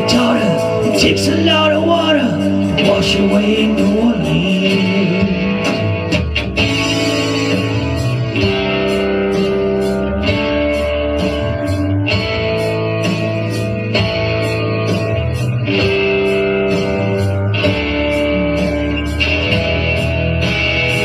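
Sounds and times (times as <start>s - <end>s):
electric guitar playing: 0.0s - 21.0s
low bass line: 0.0s - 21.0s
steady beat: 0.0s - 21.0s.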